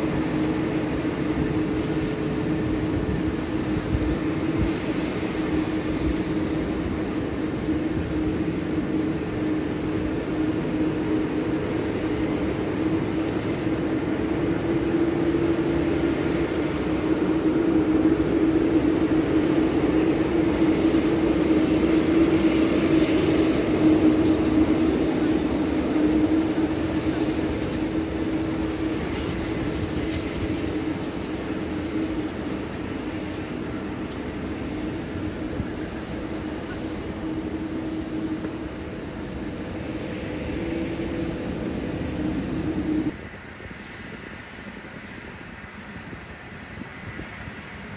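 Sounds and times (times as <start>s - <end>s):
jet engines droning: 0.0s - 47.9s.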